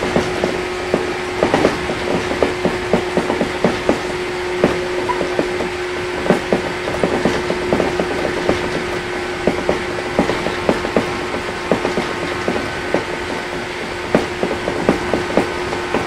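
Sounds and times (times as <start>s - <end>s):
rumble of train wheels: 0.0s - 16.0s
train car clicks and creaks: 0.0s - 16.0s
train motor hum: 0.0s - 16.0s.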